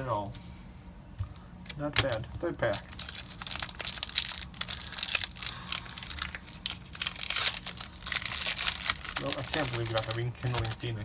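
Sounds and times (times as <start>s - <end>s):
foil wrapper crinkling and tearing: 2.0s - 11.0s.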